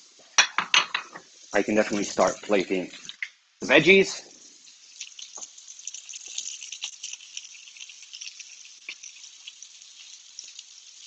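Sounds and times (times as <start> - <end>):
steak sizzling in frying pan: 1.0 - 11.0.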